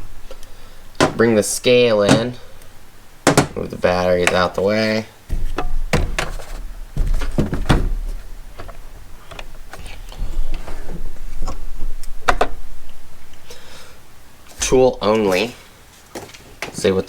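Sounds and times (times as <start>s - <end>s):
rumble of objects being moved: 0.0s - 16.8s.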